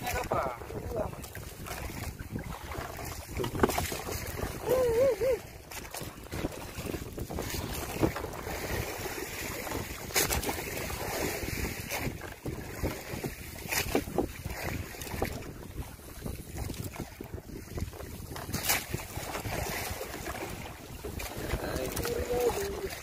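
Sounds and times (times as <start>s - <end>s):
sea washing around boat: 0.0s - 23.0s
wind buffeting microphone: 0.0s - 23.0s.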